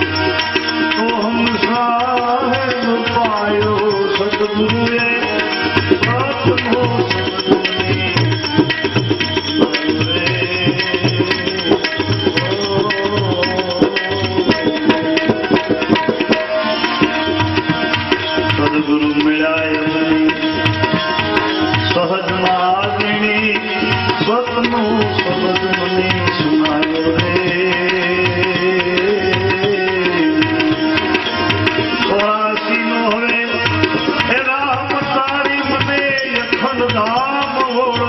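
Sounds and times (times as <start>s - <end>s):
tabla rhythm: 0.0s - 38.0s.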